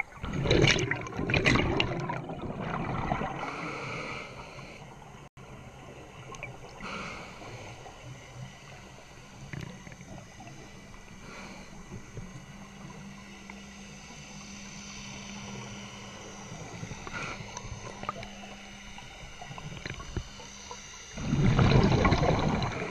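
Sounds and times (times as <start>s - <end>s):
underwater bubbles rushing: 0.0s - 3.9s, 4.5s - 13.6s, 15.1s - 22.9s
low hum: 0.0s - 22.9s.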